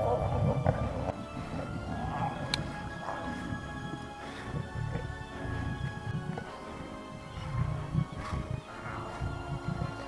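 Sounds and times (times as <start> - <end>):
background music with held tones: 0.0 - 10.0
lions growling: 0.0 - 10.0.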